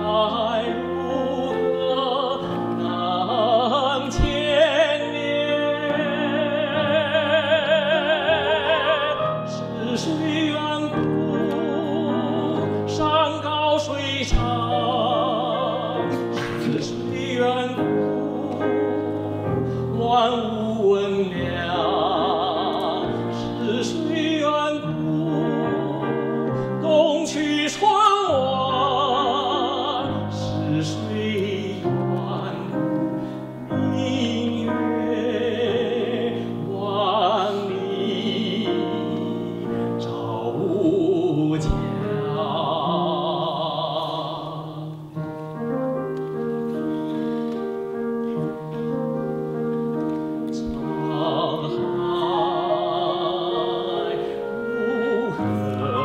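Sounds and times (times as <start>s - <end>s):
man singing operatically: 0.0s - 45.2s, 50.5s - 56.0s
cello: 0.0s - 56.0s
clarinet: 0.0s - 56.0s
piano: 0.0s - 56.0s
violin: 0.0s - 56.0s.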